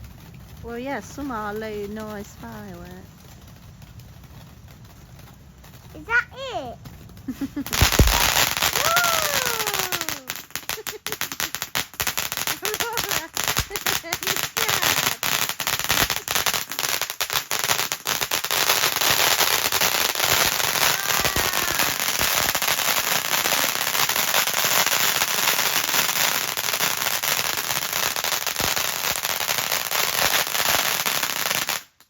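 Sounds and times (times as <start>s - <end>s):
firework crackling: 0.0s - 32.0s.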